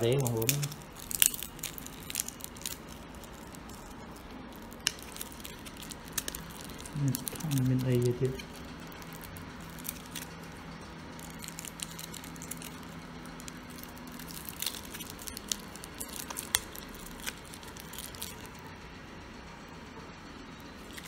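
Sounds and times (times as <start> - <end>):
plastic blister pack crinkling: 0.0 - 18.7, 20.7 - 21.0.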